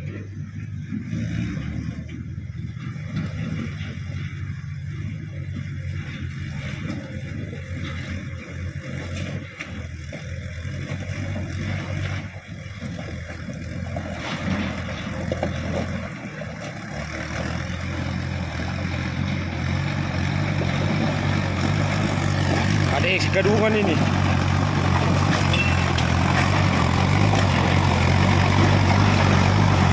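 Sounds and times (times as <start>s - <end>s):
truck engine droning: 0.0s - 29.9s.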